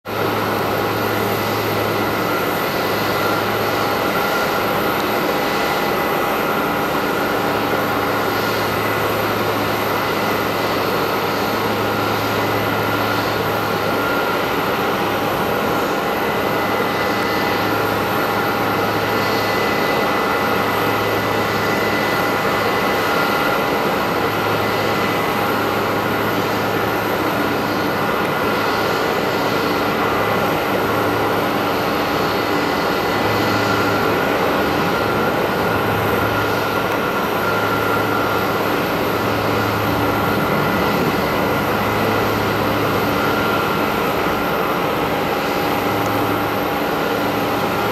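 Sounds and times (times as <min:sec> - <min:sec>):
jet engine rush: 0:00.0 - 0:47.9.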